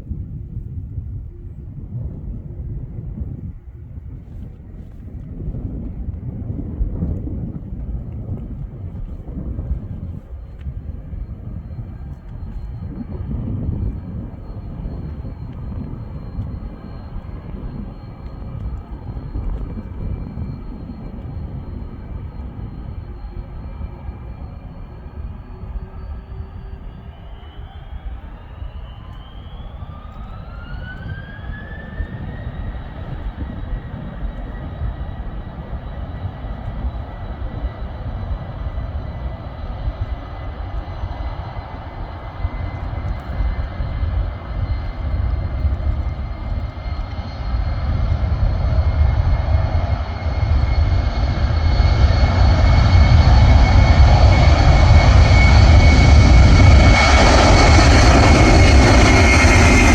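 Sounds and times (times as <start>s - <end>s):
deep engine rumble: 0.0s - 59.9s
turbine engine whine: 0.0s - 59.9s.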